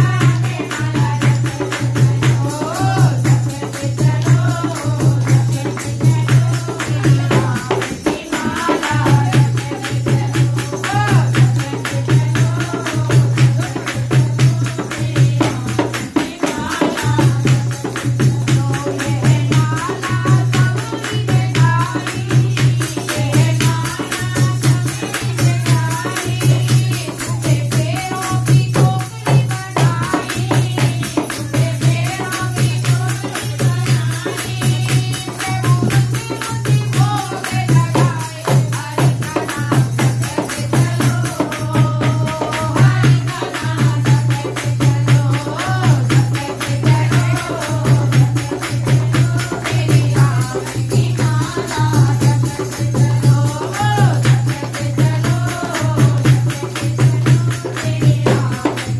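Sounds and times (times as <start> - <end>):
hand drum beating: 0.0 - 58.9
women singing devotional song: 0.0 - 58.9.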